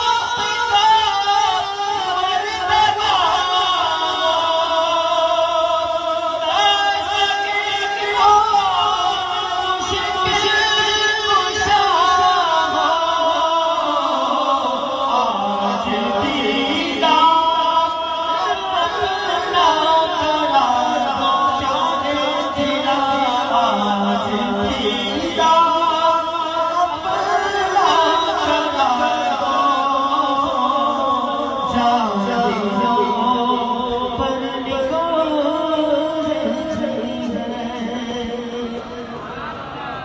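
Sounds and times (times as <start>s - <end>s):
men singing a hymn: 0.0s - 38.8s.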